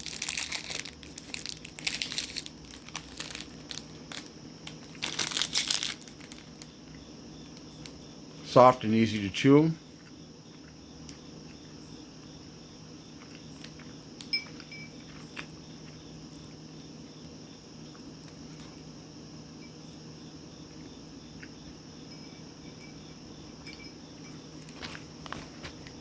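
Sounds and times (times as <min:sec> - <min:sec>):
insect-like chirring: 0:00.0 - 0:25.3.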